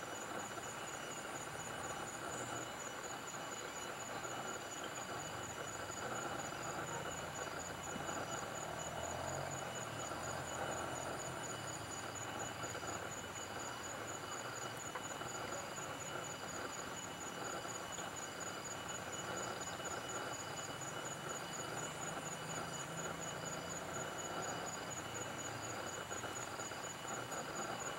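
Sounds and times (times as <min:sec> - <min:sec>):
insects trilling: 0:00.0 - 0:27.9.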